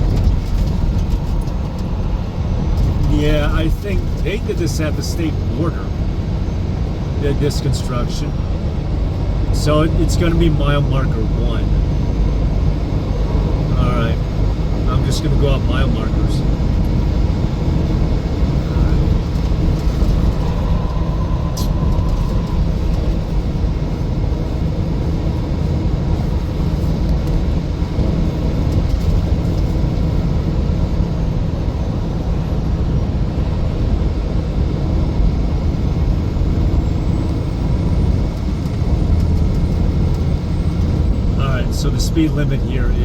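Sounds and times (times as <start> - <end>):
road and engine noise in cabin: 0.0 - 43.0.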